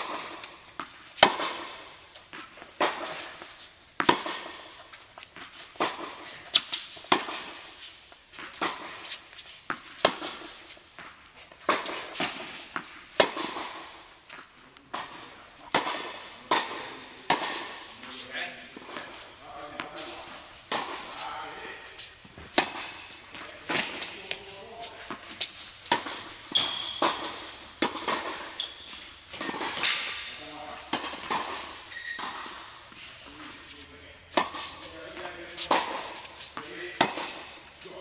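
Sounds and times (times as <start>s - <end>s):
tennis balls struck by rackets: 0.0s - 38.0s.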